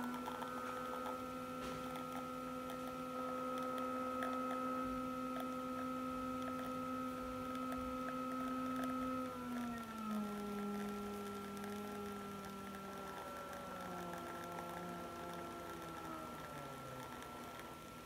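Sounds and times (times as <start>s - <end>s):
espresso machine pump humming: 0.0s - 18.0s.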